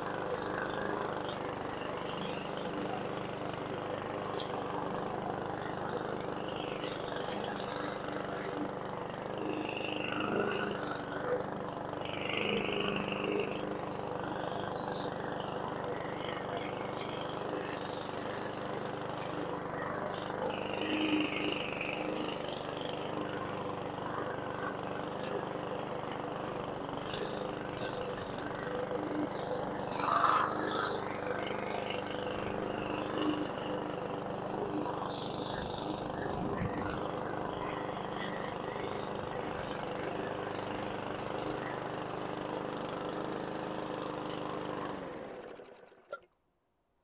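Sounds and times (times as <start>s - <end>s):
lawn mower engine running: 0.0s - 46.2s.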